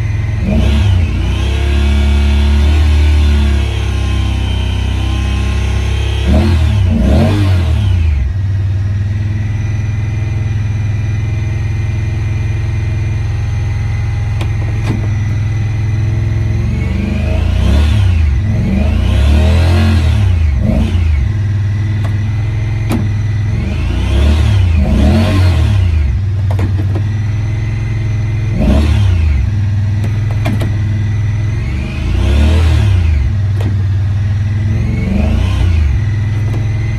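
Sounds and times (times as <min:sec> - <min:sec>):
engine revving and idling: 0:00.0 - 0:36.9.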